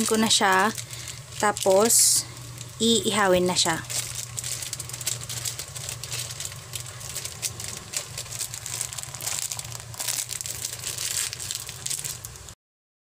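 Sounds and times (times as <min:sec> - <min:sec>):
low steady hum: 0:00.0 - 0:12.6
plastic wrapper crinkling: 0:00.0 - 0:12.6.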